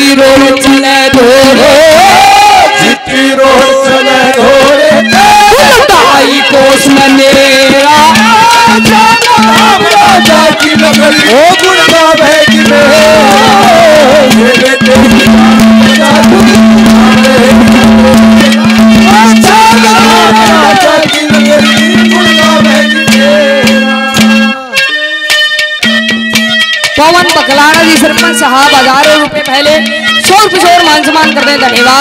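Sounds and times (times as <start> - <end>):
man singing through loudspeakers: 0.0 - 24.9, 27.0 - 32.0
harmonium drone: 0.0 - 32.0.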